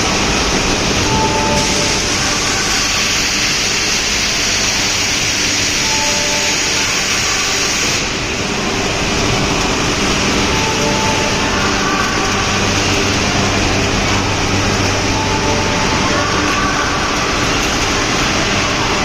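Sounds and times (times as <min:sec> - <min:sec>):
faint hum tones: 0:00.0 - 0:19.0
industrial machinery hiss and rumble: 0:00.0 - 0:19.0.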